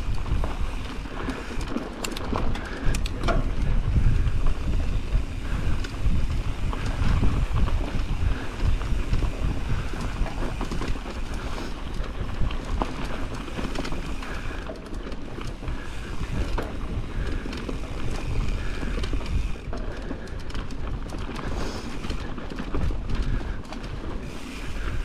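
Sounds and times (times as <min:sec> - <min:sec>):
bike tyres on dirt trail: 0:00.0 - 0:25.0
sharp clicks and rattles: 0:00.0 - 0:25.0
wind buffeting microphone: 0:00.0 - 0:25.0.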